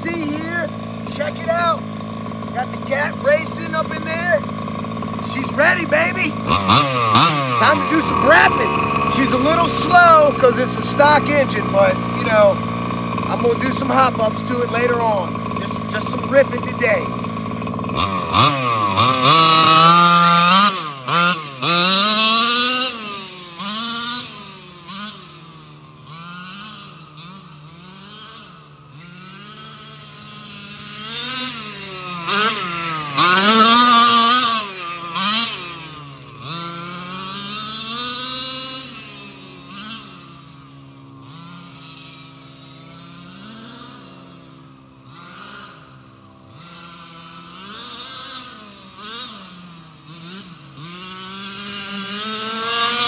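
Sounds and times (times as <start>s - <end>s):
toy truck engine revving: 0.0s - 53.0s.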